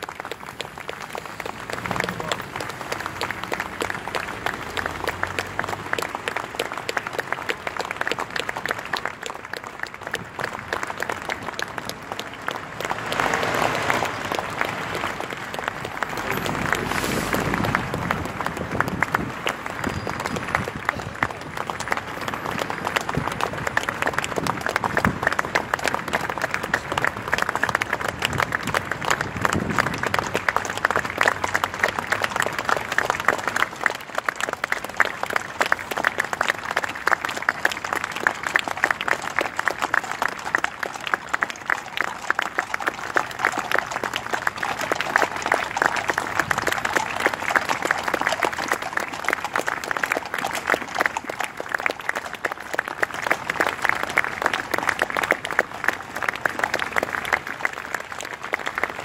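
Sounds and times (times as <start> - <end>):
crowd applauding: 0.0 - 59.0.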